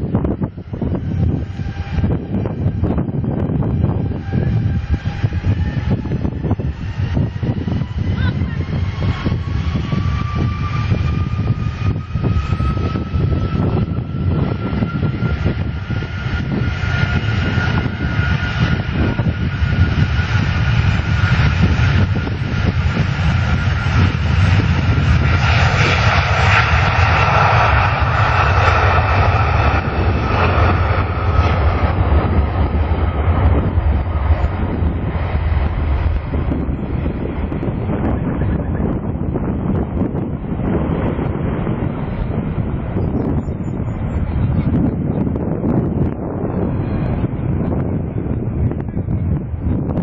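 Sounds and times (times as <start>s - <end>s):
jet engines whining and rumbling: 0.0s - 50.0s
wind buffeting microphone: 0.0s - 50.0s.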